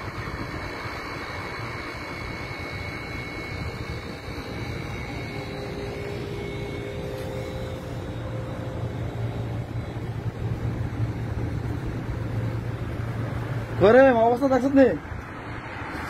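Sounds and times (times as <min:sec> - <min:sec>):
faint steady hum: 0:00.0 - 0:16.0
wind blowing with low rumble: 0:00.0 - 0:16.0.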